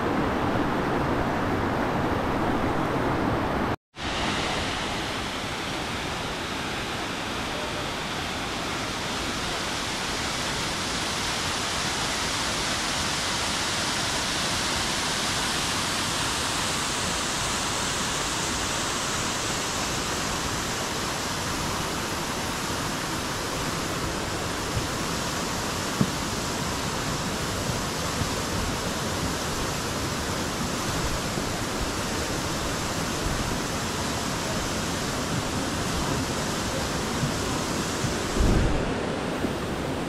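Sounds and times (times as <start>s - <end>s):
water rushing over stones: 4.0s - 40.0s.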